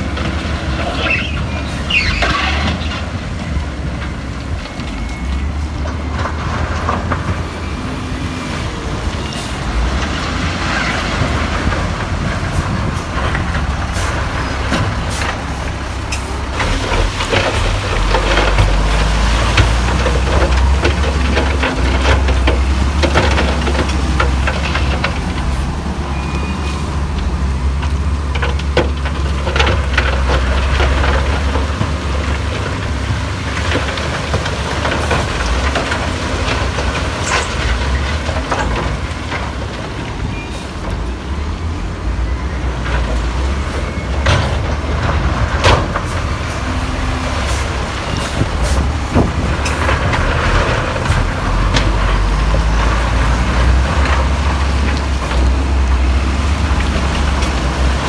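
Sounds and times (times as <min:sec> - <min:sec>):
diesel engine drone: 0:00.0 - 0:58.0
machinery clanks and knocks: 0:00.0 - 0:58.0.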